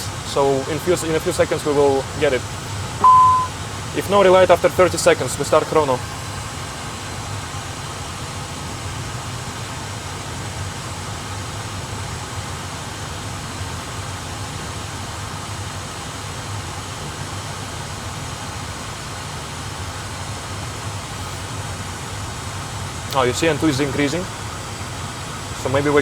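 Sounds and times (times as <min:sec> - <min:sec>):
cockpit hiss and low hum: 0:00.0 - 0:26.0.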